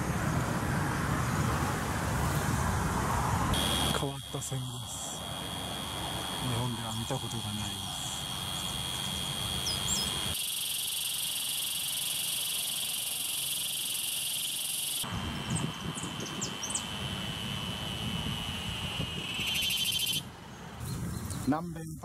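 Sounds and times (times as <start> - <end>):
cicadas buzzing: 0.0 - 21.9.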